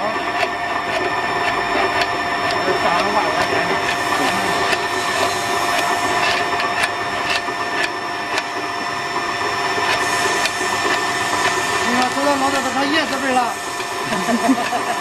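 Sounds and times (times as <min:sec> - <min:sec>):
electric winch motor humming: 0:00.0 - 0:15.0.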